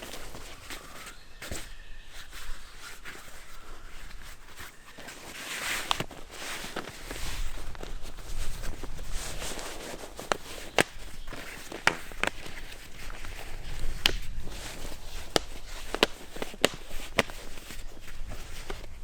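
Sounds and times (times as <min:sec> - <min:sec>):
twigs snapping underfoot: 0:00.0 - 0:01.6, 0:02.8 - 0:19.0
footsteps on dry forest floor: 0:00.0 - 0:19.0.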